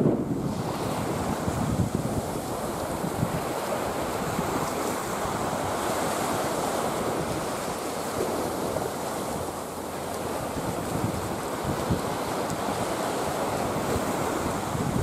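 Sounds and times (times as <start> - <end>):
small waves washing onto sand: 0.0 - 15.0
wind on microphone: 0.0 - 15.0.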